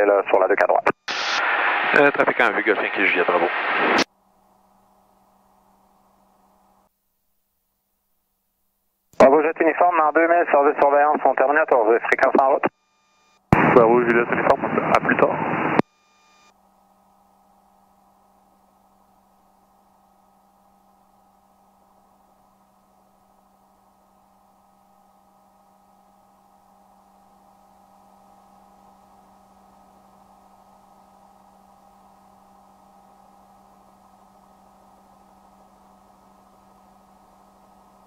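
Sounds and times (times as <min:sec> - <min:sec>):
radio line hum with tones: 0:00.0 - 0:38.0.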